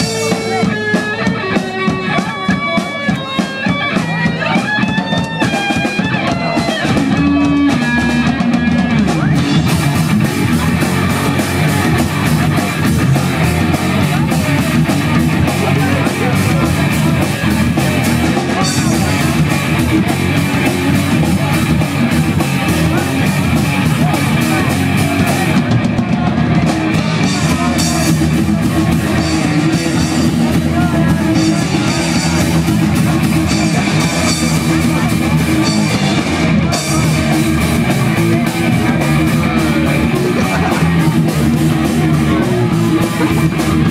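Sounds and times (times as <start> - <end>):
punk rock band playing: 0.0 - 43.9.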